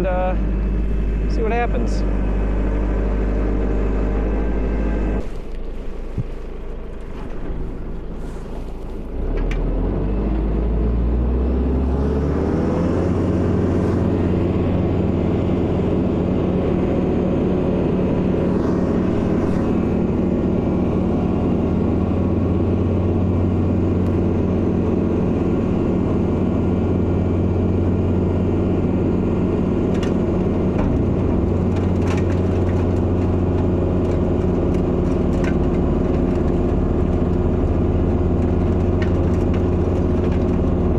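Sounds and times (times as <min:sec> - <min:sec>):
tractor diesel engine revving: 0:00.0 - 0:05.5, 0:09.0 - 0:40.9.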